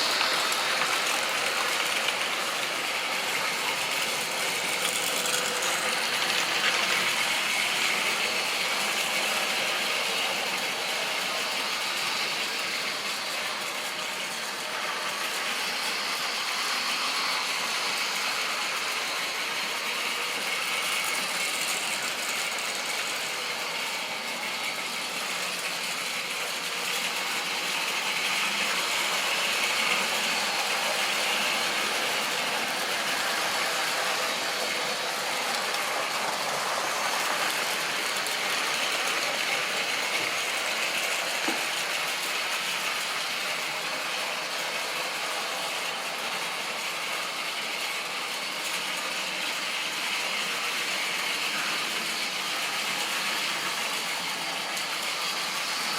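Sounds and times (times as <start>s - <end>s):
model train whirring and rattling: 0.0s - 55.9s.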